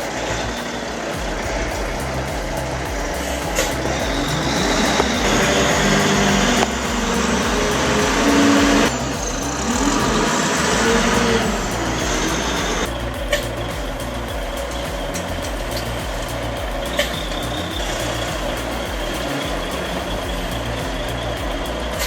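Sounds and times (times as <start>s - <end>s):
wheel loader diesel engine: 0.0s - 22.0s.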